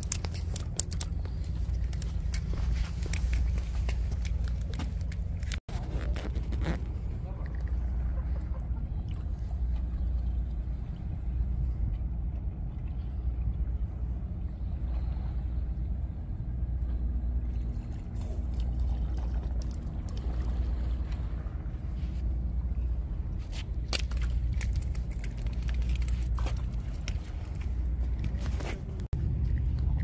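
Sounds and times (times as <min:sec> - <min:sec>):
engine-like hum: 0:00.0 - 0:30.0
low rumble: 0:00.0 - 0:30.0.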